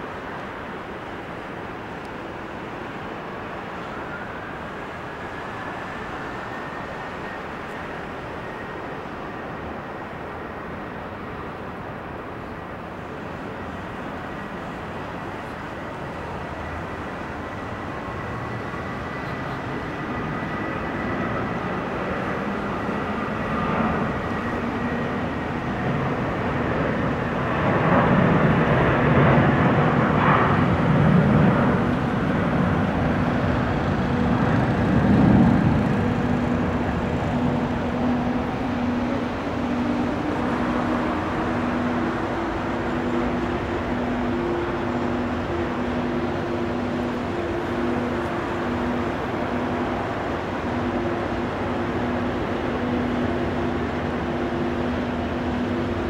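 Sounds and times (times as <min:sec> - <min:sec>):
jet engine roar: 0:00.0 - 0:56.0.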